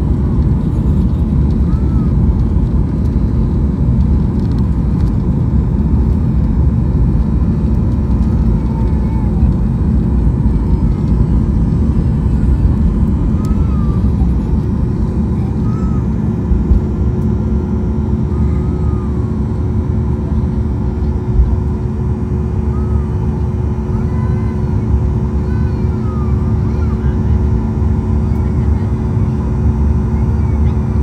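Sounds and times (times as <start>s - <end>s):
jet engine hum: 0.0s - 31.0s
jet engine rumble: 0.0s - 31.0s.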